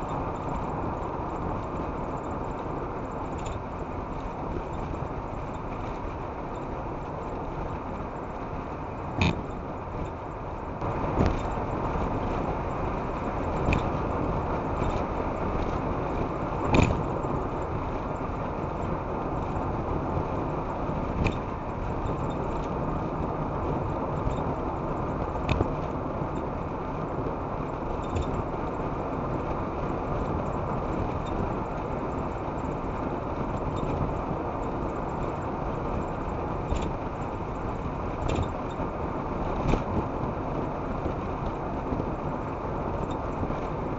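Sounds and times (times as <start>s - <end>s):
road and tyre noise: 0.0s - 43.9s.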